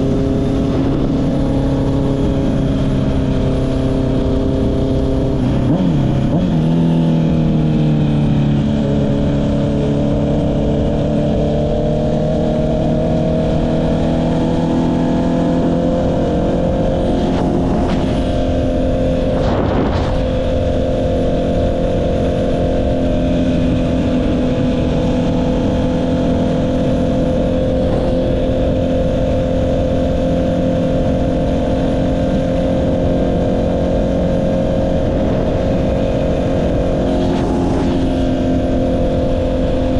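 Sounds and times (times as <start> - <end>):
motorcycle engine running: 0.0 - 39.9
wind rumble: 0.0 - 39.9.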